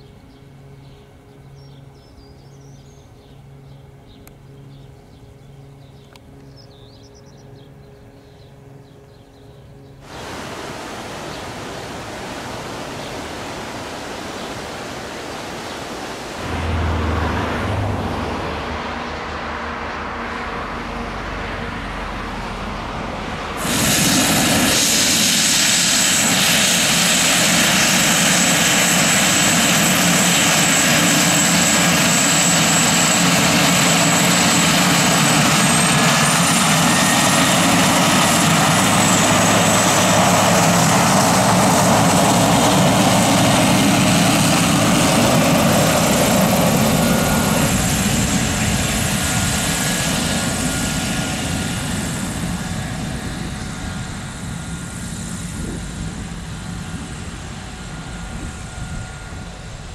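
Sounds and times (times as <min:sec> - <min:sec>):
turboprop plane taxiing past: 0:00.0 - 0:59.9.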